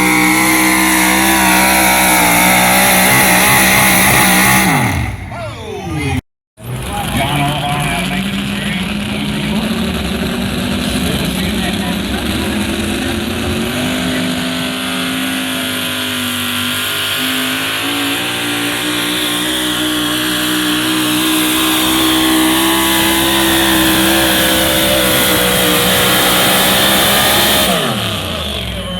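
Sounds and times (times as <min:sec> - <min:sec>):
vehicle engine at high revs: 0:00.0 - 0:28.9.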